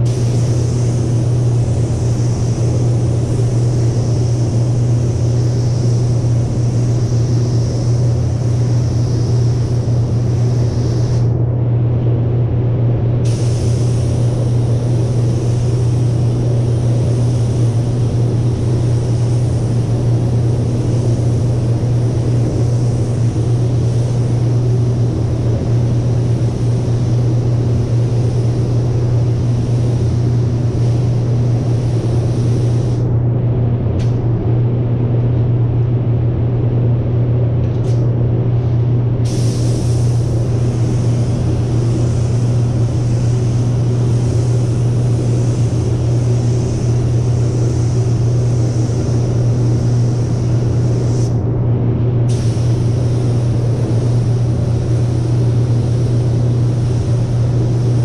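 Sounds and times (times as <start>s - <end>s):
paint spray gun hissing: 0.0s - 11.4s, 13.3s - 33.0s, 39.2s - 51.4s, 52.3s - 58.0s
ventilation fan droning: 0.0s - 58.0s.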